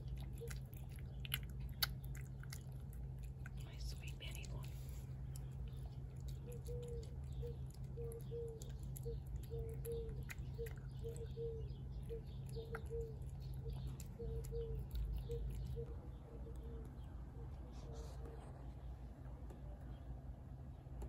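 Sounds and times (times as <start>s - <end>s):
cat chewing food: 0.0s - 20.2s
steady low rumble: 0.0s - 21.0s.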